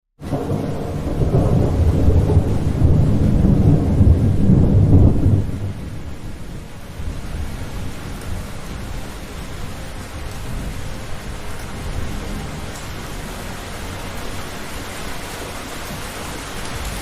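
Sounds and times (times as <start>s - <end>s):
thunder rumbling: 0.2s - 17.0s
rain hissing: 0.3s - 17.0s.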